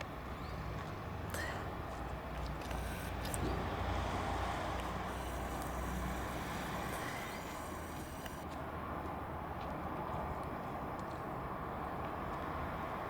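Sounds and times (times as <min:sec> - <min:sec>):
outdoor background rumble and hiss: 0:00.0 - 0:13.0.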